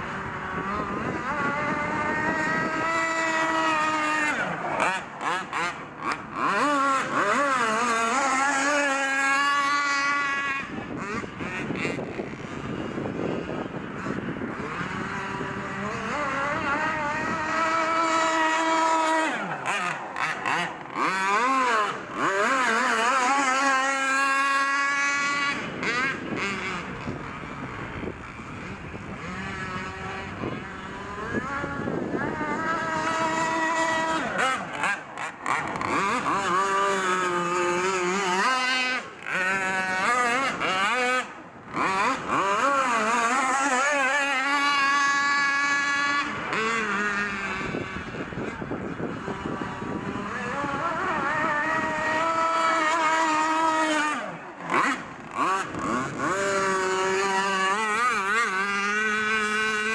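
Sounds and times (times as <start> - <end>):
model boat engine at high revs: 0.0 - 59.9.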